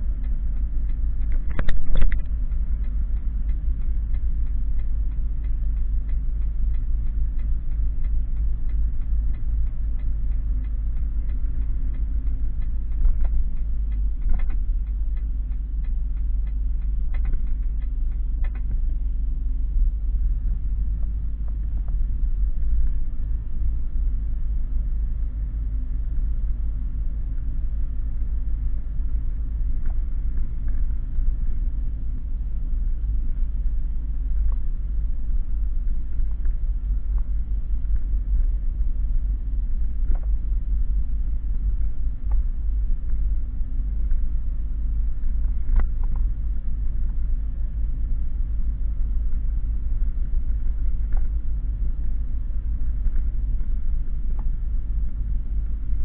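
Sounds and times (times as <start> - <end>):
faint clicks and rattles: 0.0 - 56.0
truck engine rumbling: 0.0 - 56.0.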